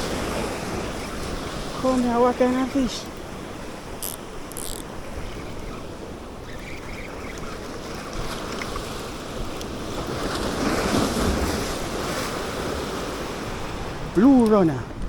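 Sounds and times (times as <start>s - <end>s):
waves washing against rocks: 0.0s - 6.8s, 7.4s - 15.0s
wind buffeting microphone: 0.0s - 15.0s.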